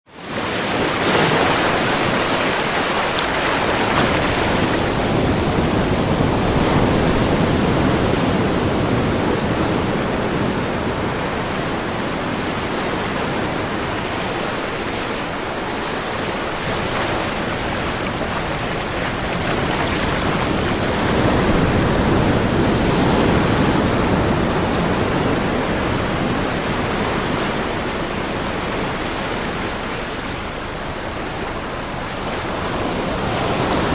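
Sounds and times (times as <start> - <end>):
ocean waves washing: 0.1 - 33.9.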